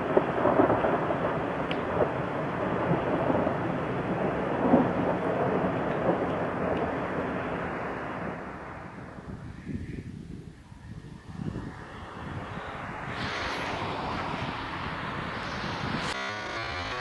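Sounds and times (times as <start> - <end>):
thunder rolling: 0.0 - 17.0.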